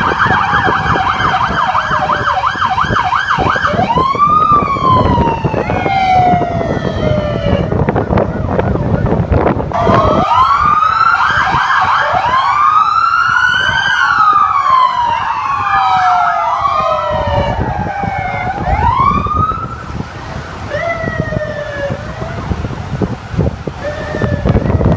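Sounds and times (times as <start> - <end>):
police sirens wailing: 0.0 - 24.9.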